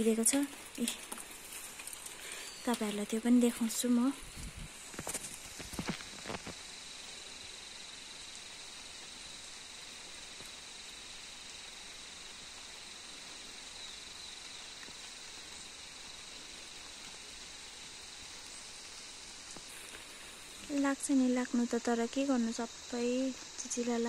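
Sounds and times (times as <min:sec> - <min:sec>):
even hiss: 0:00.0 - 0:24.0
insect chorus: 0:00.0 - 0:24.0.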